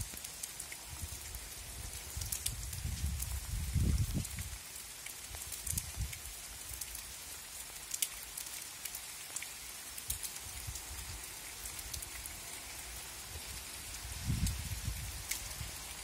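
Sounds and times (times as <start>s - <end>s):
rain on leaves: 0.0s - 16.0s
raindrops ticking: 0.0s - 16.0s.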